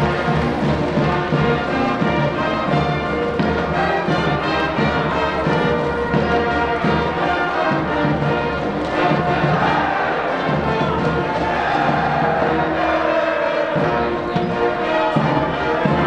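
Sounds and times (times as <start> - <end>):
steady drum beat: 0.0 - 13.1
brass band playing: 0.0 - 16.0.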